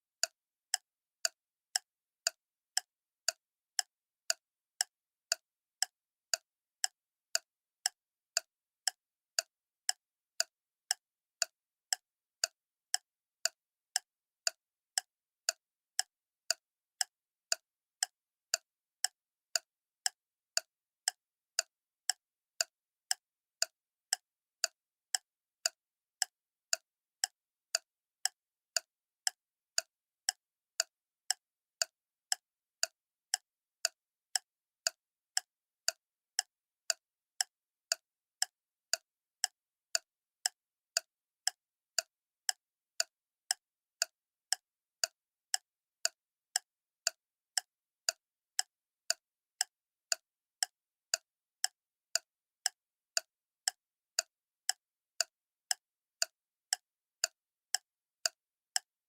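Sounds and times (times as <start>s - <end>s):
clock ticking: 0.2s - 58.9s.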